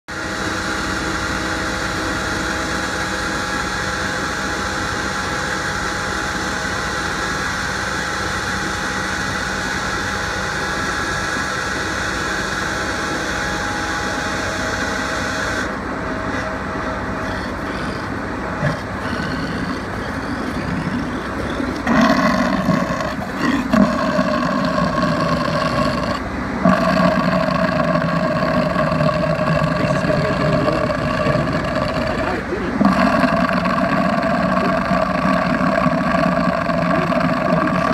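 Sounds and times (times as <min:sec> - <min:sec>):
pump machine whine: 0:00.1 - 0:37.9.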